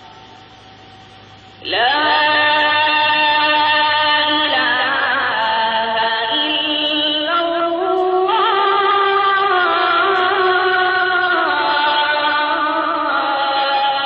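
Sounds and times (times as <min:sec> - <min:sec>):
voice chanting call to prayer: 0:01.6 - 0:14.0.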